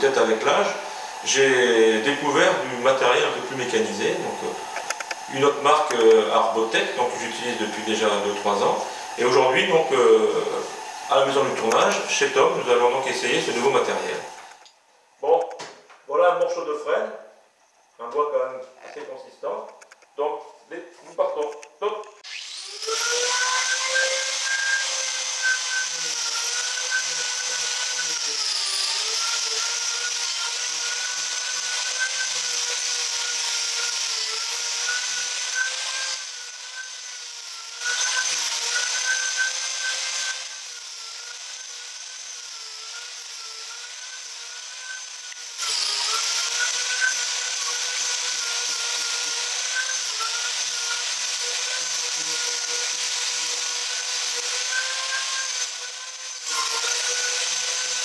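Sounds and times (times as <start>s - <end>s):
grinder motor whine: 0.0s - 14.6s, 22.2s - 58.0s.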